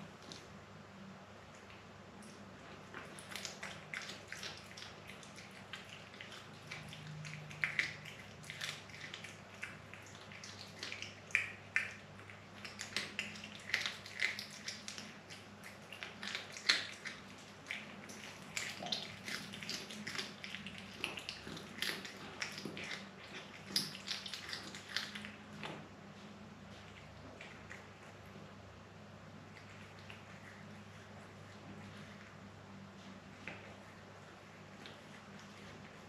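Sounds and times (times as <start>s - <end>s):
cat chewing with crunches: 1.4s - 36.0s.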